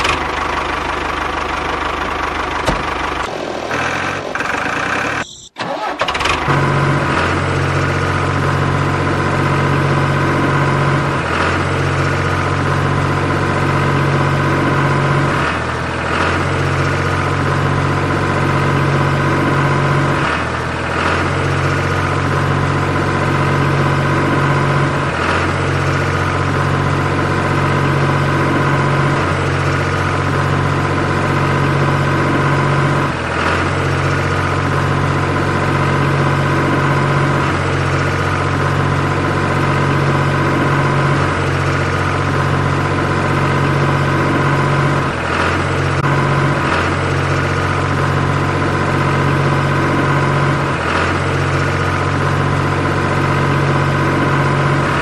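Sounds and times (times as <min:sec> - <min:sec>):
engine humming at idle: 0:00.0 - 0:55.0.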